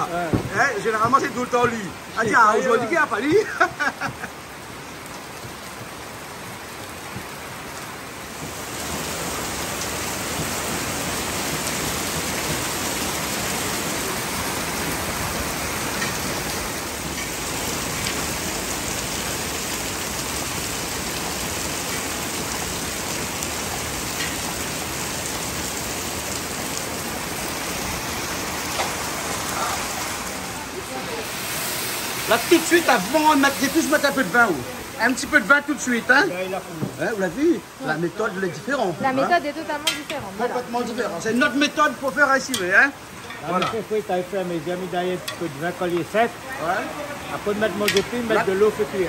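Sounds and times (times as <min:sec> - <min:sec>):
heavy rain on roof: 0:00.0 - 0:49.0
water streaming off eaves: 0:00.0 - 0:49.0.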